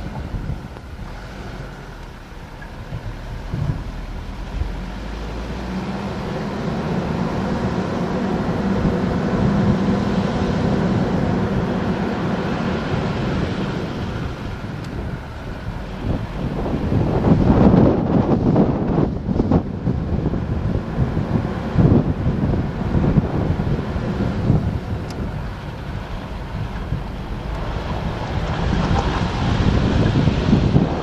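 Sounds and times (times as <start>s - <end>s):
car engine driving off-road: 0.0s - 31.0s
wind noise on microphone: 0.0s - 31.0s.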